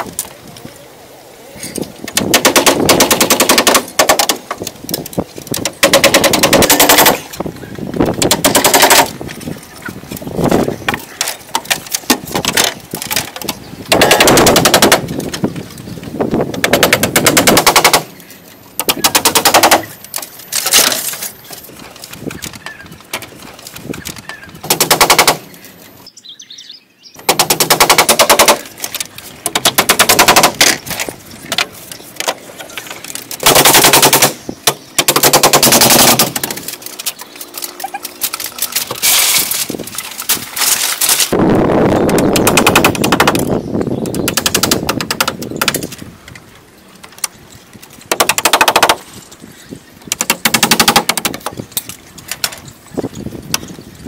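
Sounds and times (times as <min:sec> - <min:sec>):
bamboo poles rattling together: 0:01.6 - 0:26.1, 0:27.2 - 0:54.0.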